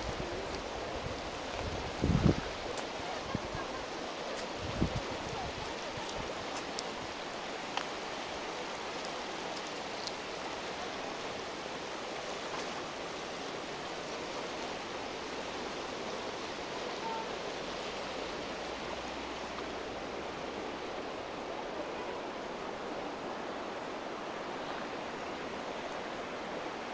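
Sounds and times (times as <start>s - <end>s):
steady rushing noise: 0.0s - 26.9s.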